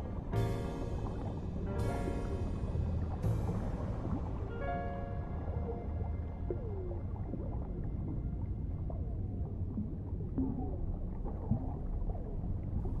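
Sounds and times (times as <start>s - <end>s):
muffled underwater rumble: 0.0s - 13.0s.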